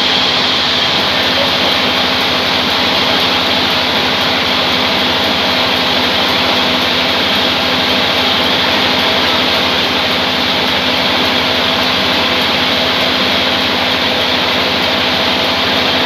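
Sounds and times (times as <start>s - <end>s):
band sawmill running: 0.0s - 16.0s.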